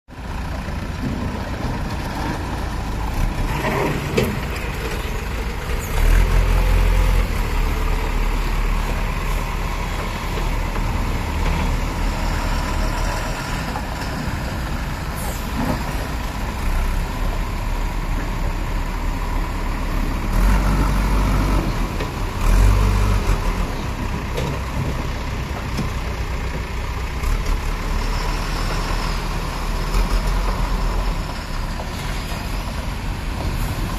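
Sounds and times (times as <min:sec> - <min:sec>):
diesel truck engines running: 0:00.1 - 0:33.9.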